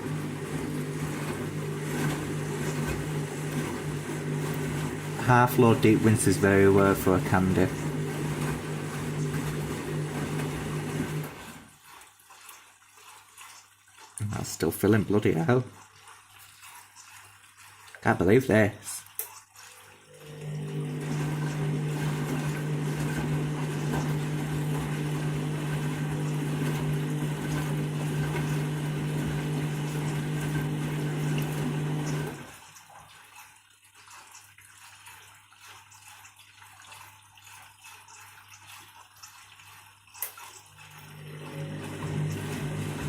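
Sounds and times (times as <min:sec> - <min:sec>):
washing machine hum: 0:00.0 - 0:18.8, 0:19.4 - 0:43.0
water rushing in: 0:00.0 - 0:34.8, 0:36.9 - 0:43.0
water trickling: 0:00.0 - 0:43.0.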